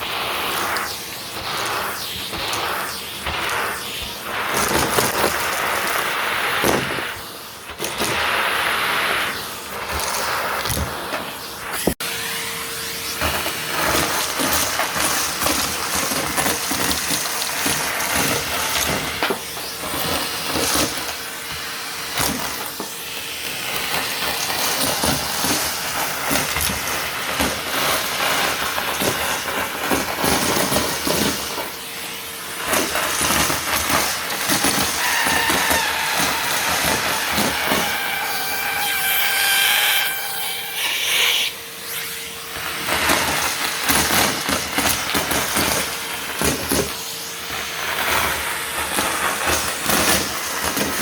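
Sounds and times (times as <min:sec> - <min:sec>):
debris crackling in vacuum: 0:00.0 - 0:11.8, 0:13.1 - 0:46.8
vacuum cleaner on carpet: 0:00.0 - 0:51.0.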